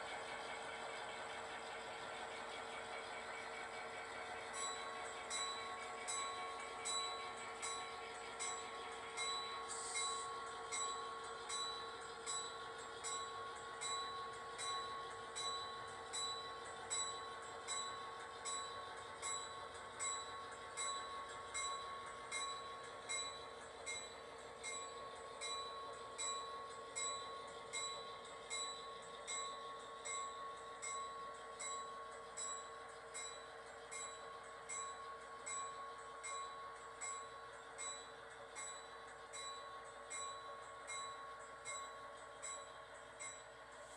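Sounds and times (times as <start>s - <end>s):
model railroad hum: 0.0s - 43.9s.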